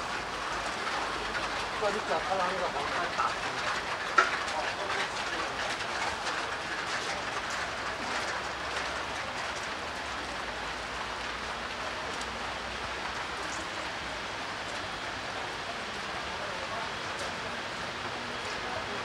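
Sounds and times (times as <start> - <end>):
rain falling on street: 0.0 - 19.0.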